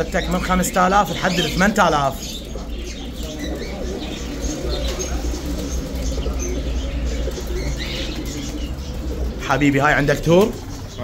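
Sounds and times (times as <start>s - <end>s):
pigeons cooing: 0.0s - 11.0s
wings flapping: 0.0s - 11.0s.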